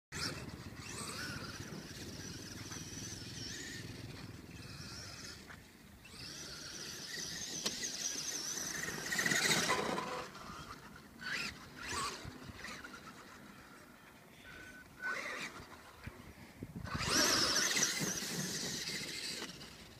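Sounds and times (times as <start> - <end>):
electric motor whining: 0.2 - 13.9, 16.8 - 19.9.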